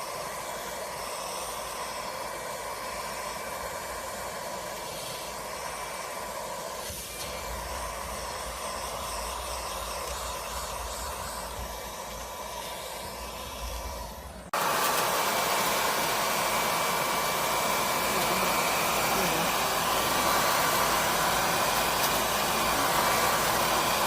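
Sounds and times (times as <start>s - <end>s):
stick vacuum whirring: 0.0s - 24.0s.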